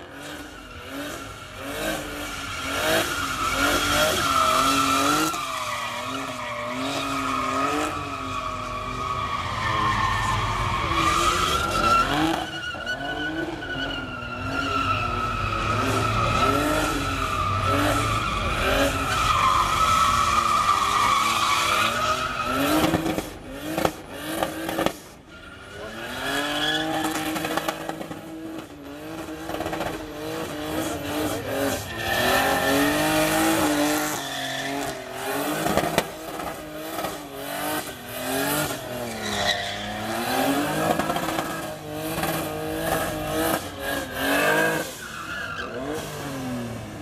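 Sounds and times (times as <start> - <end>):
tyres screeching: 0.0 - 23.2, 29.2 - 46.5
car engine revving: 0.0 - 25.0, 25.8 - 47.0.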